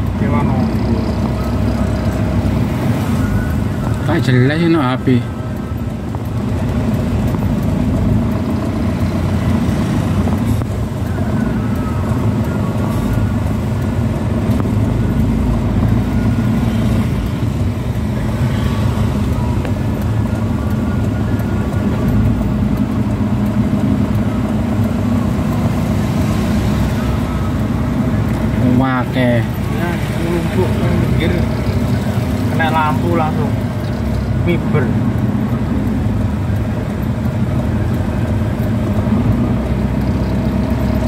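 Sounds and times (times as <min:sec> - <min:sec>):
car engine and road noise: 0:00.0 - 0:41.0.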